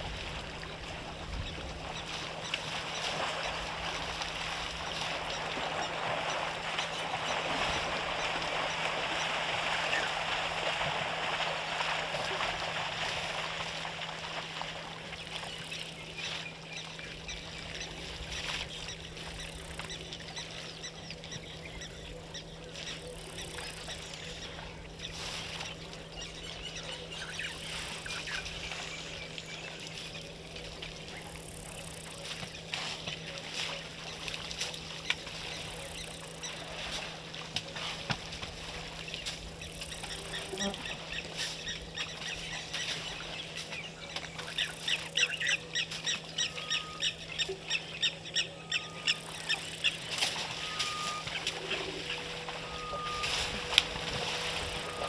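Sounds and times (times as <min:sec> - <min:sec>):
water splashing: 0:00.0 - 0:21.9, 0:22.7 - 0:55.0
steady low hum: 0:00.0 - 0:55.0.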